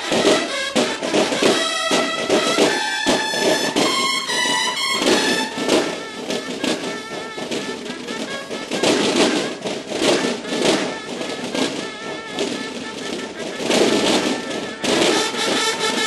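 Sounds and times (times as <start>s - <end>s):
rapid rhythmic drumming: 0.0s - 16.0s.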